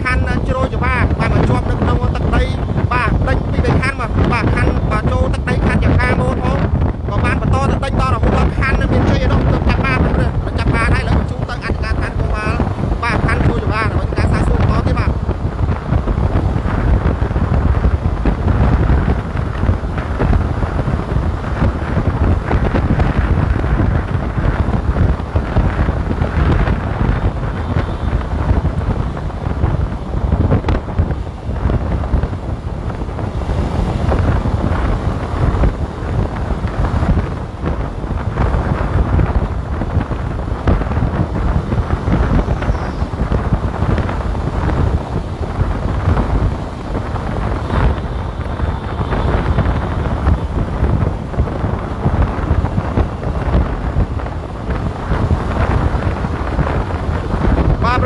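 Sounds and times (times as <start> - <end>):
vehicle road and engine noise: 0.0 - 58.0
wind buffeting microphone: 0.0 - 58.0.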